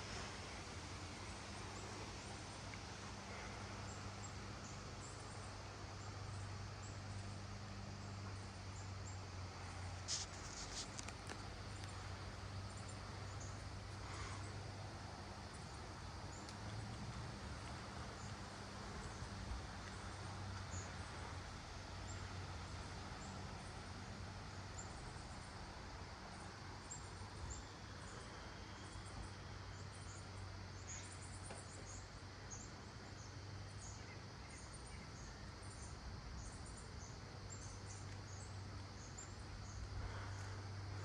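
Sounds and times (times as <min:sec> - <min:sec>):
wind: 0:00.0 - 0:41.0.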